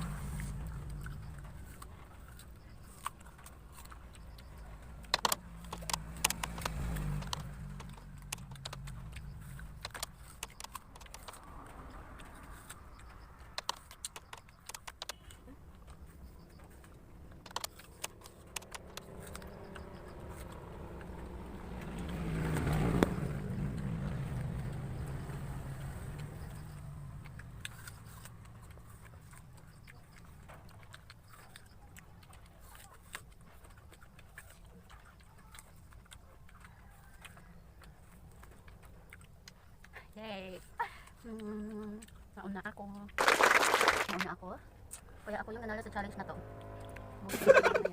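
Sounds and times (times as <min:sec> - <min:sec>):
apples being bitten and chewed: 0:00.0 - 0:47.9.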